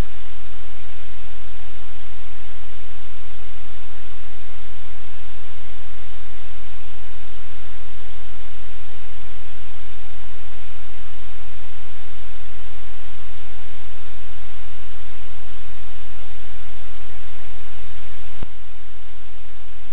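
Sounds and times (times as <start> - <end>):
low electrical hum: 0.0 - 19.9
static hiss: 0.0 - 19.9.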